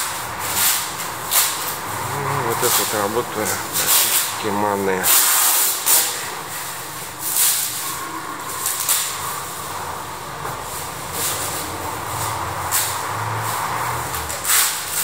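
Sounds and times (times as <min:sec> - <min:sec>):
street low rumble: 0:00.0 - 0:15.0
hissing surges: 0:01.3 - 0:13.9.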